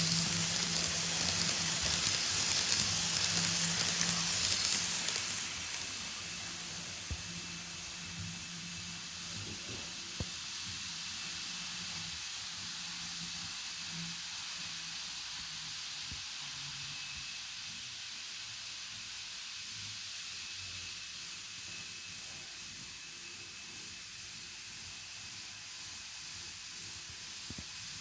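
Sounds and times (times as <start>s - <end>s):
model railway hiss: 0.0s - 28.0s.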